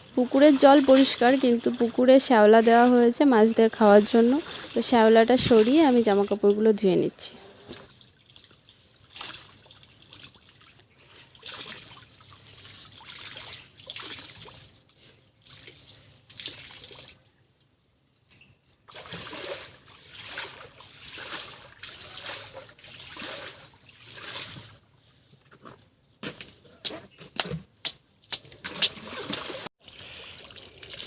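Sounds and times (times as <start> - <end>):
water splashing and dripping: 0.0 - 17.9, 18.8 - 24.8, 27.8 - 31.0.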